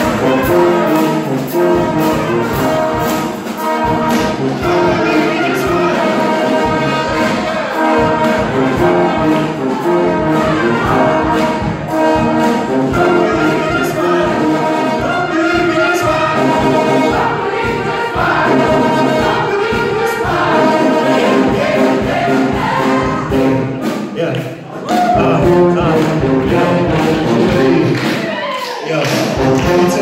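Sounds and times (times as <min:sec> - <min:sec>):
choir singing: 0:00.0 - 0:24.0, 0:24.7 - 0:30.0
brass band playing: 0:00.0 - 0:30.0
steady drum beat: 0:00.0 - 0:30.0.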